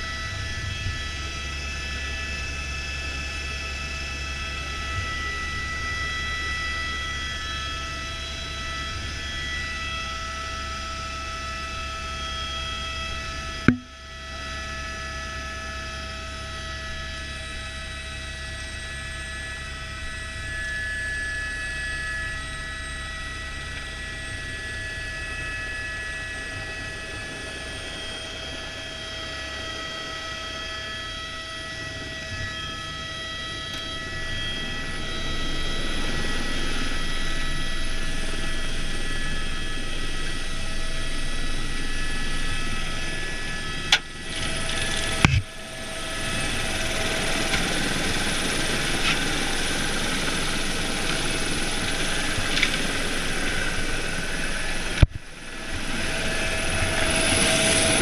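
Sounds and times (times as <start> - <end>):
helicopter turbine whine: 0.0 - 58.0
rotor drone: 0.0 - 58.0.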